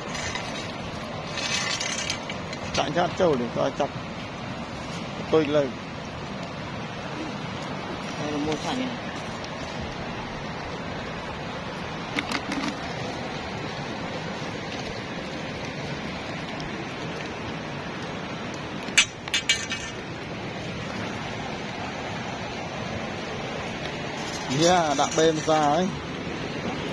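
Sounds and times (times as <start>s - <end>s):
steady watery hiss: 0.0s - 26.9s.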